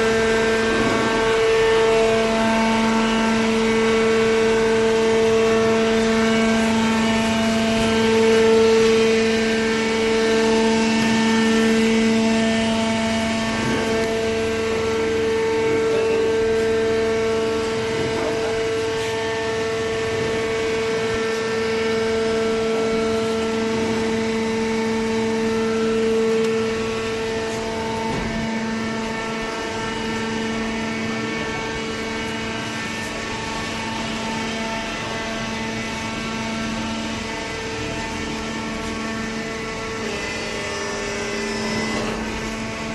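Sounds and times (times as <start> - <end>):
baler motor and hydraulic hum: 0.0 - 42.9.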